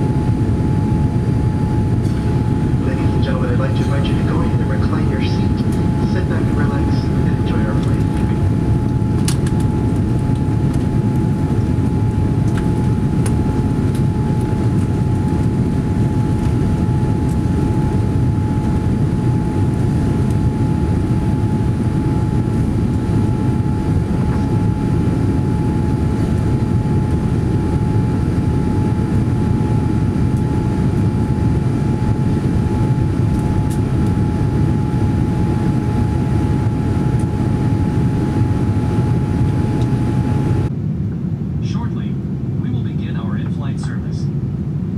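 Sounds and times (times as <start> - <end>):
airliner cabin engine rush: 0.0 - 44.9
faint steady whine: 0.0 - 44.9.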